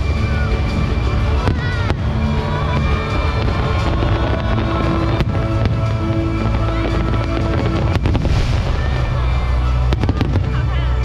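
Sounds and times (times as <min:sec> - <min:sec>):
firework bangs: 0:00.0 - 0:11.0
loud show music with bass: 0:00.0 - 0:11.0.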